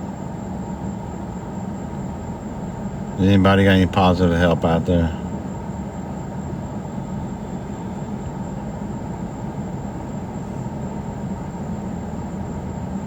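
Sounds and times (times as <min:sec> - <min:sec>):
low vehicle rumble with hiss: 0:00.0 - 0:13.0.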